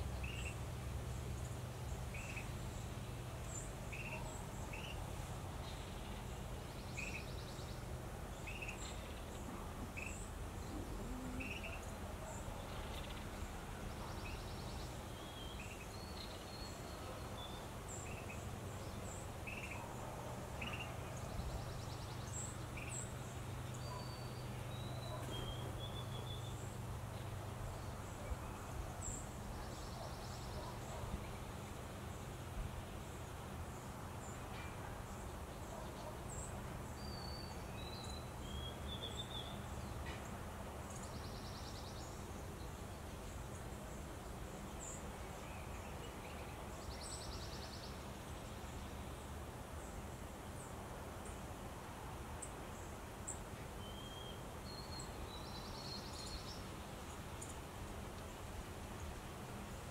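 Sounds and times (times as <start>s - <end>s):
songbird chirps: 0.0s - 59.9s.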